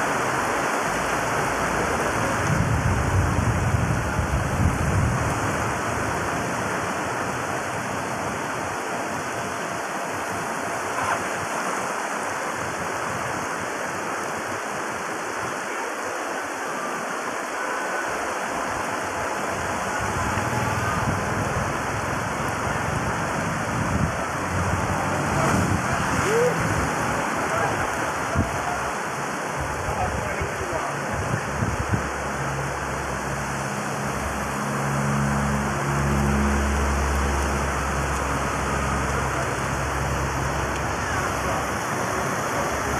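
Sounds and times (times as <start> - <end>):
floodwater rushing over road: 0.0 - 42.9
heavy rain falling: 0.0 - 42.9.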